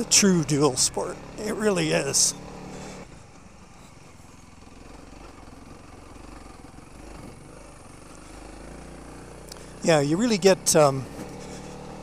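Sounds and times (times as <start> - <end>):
motorcycle engine at low speed: 0.0 - 12.0.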